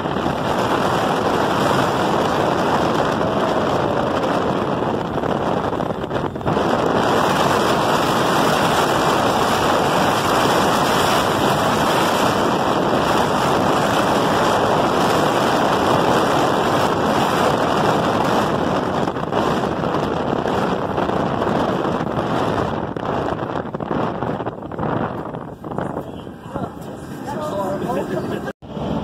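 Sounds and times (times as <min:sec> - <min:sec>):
monorail running with air rush: 0:00.0 - 0:29.0.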